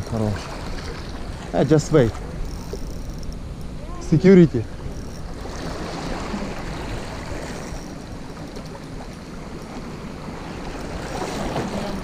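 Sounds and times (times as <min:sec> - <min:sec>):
sea surf washing ashore: 0:00.0 - 0:12.0.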